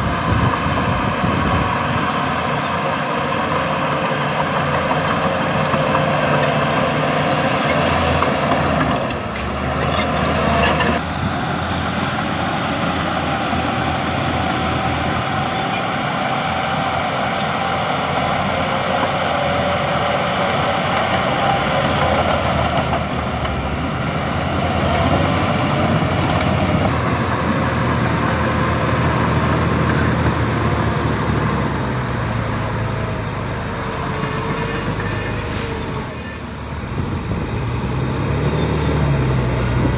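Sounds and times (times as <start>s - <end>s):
heavy diesel engine working: 0.0s - 39.9s.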